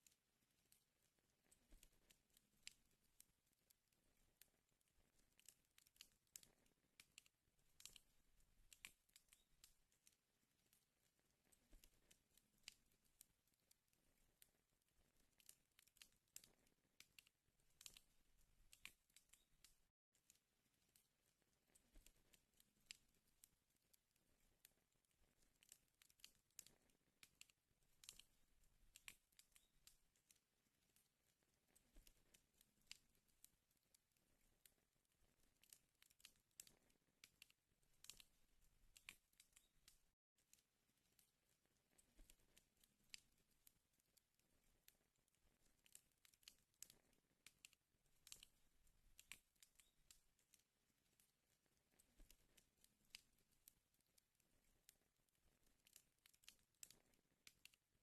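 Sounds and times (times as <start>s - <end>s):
fire crackling in a fireplace: 0.0s - 58.0s.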